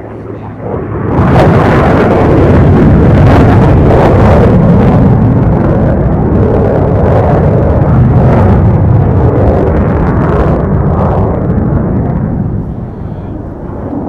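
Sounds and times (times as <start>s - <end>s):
fighter jet flying past: 0.0s - 14.0s.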